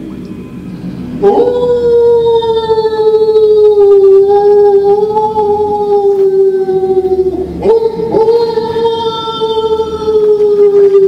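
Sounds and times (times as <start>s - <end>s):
eerie howling wail: 1.2s - 11.0s.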